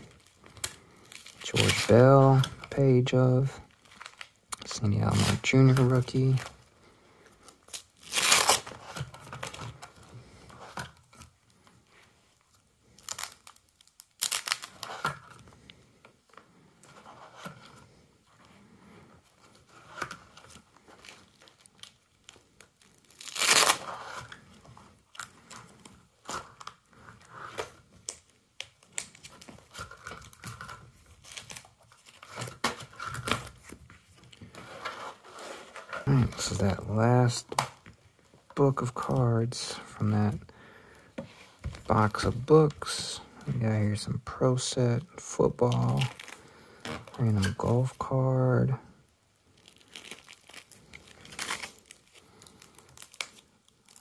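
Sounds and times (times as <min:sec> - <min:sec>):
plastic binder pages crinkling: 0:00.0 - 0:44.0, 0:44.6 - 0:54.0.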